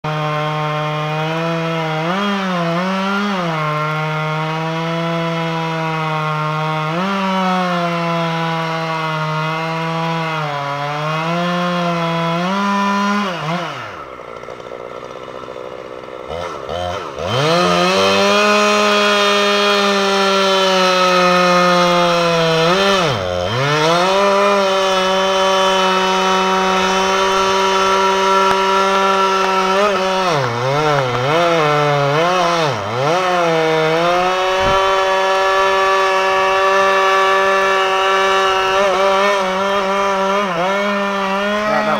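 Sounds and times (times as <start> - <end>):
chainsaw cutting tree trunk: 0.0 - 41.9.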